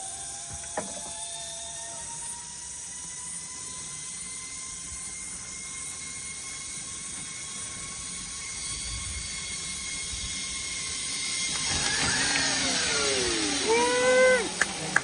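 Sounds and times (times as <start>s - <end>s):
zipline trolley whirring on cable: 0.0s - 15.0s.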